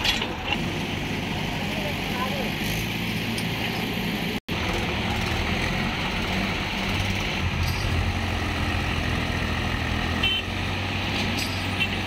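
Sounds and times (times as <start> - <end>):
diesel tractor engines under load: 0.0 - 12.0.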